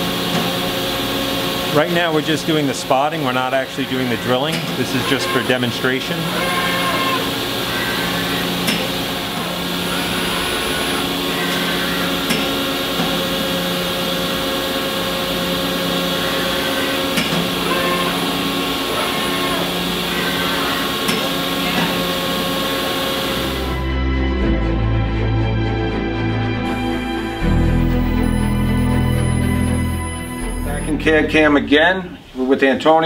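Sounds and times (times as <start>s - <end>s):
machine hum with whining tones: 0.0s - 25.3s, 26.3s - 32.3s.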